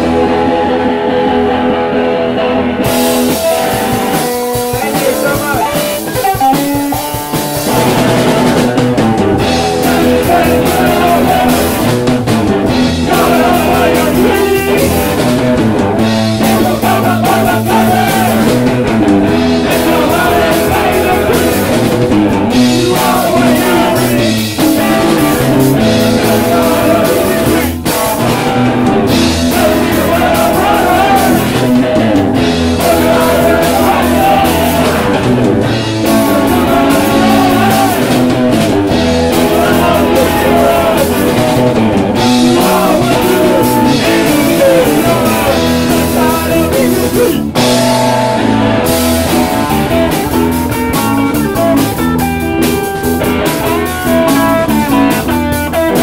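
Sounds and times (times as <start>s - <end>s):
punk rock band playing live: 0.0s - 56.0s
person singing: 4.5s - 12.1s, 12.7s - 15.6s, 16.2s - 18.7s, 19.5s - 51.8s.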